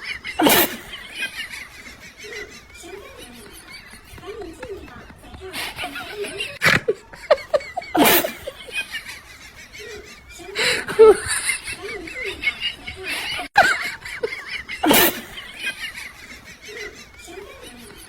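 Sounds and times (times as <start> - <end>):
people laughing: 0.0 - 18.0
quiet voices: 0.0 - 18.0.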